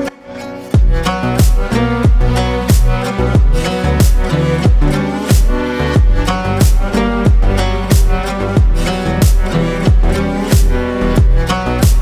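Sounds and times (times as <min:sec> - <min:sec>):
sustained synth chords: 0:00.0 - 0:12.0
deep kick drum: 0:00.8 - 0:12.0.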